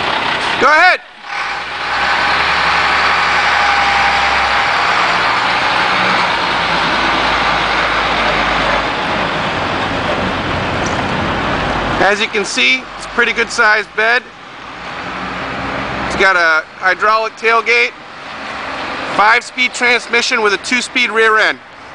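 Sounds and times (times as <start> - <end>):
diesel truck engine running: 0.0 - 21.9.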